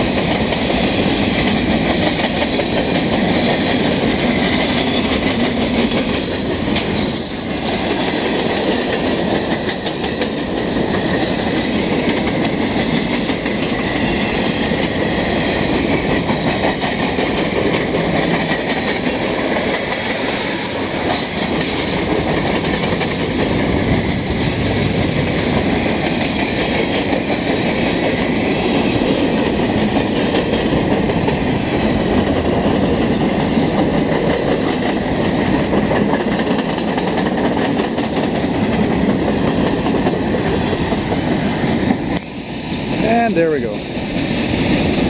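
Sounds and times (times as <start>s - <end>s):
train wheels on rails: 0.0s - 45.0s.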